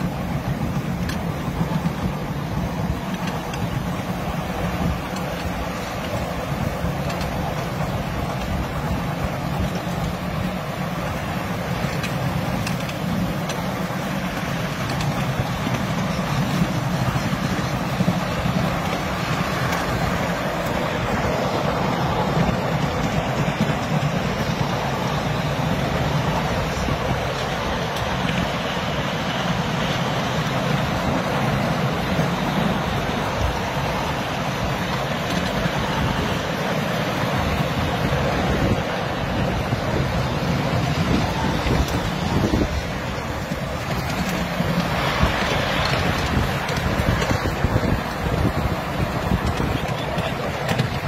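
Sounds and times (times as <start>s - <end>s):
faint clicks of wheels: 0.0s - 51.0s
miniature train running on rails: 0.0s - 51.0s.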